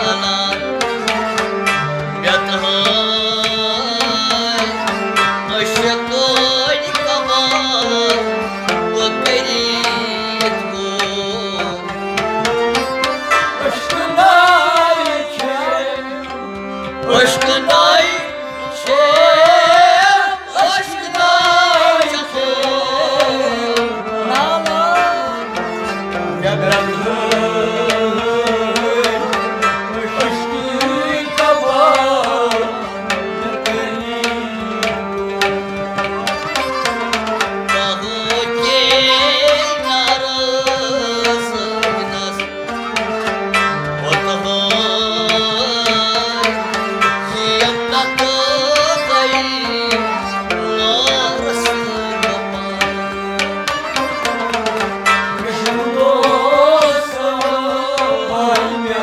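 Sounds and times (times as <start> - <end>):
bowed sarangi: 0.0 - 59.0
harmonium: 0.0 - 59.0
man singing: 0.0 - 59.0
rabab: 0.0 - 59.0.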